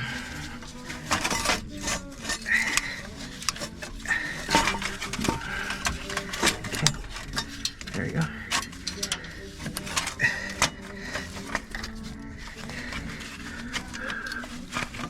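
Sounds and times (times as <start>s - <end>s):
metal on metal squeaks: 0.0s - 15.0s
metal parts clinking and knocking: 0.0s - 15.0s.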